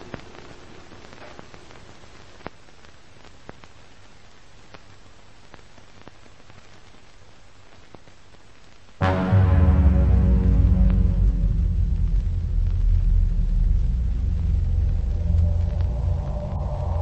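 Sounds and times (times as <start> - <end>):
film crackle hiss: 0.0 - 17.0.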